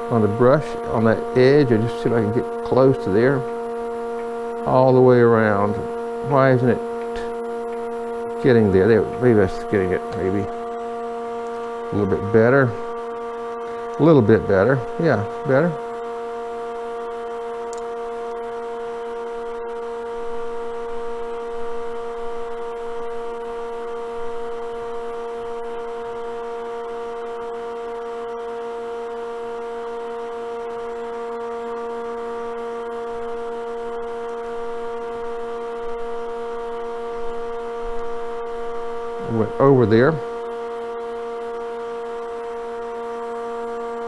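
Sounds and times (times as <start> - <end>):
lathe electric motor hum: 0.0 - 44.0.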